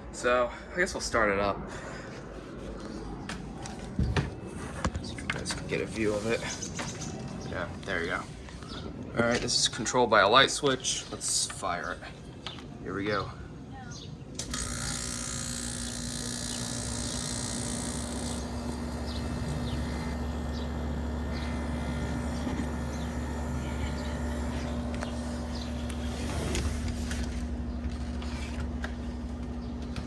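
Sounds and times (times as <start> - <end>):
air conditioner hum: 0.0 - 30.0
fan rushing: 0.1 - 30.0.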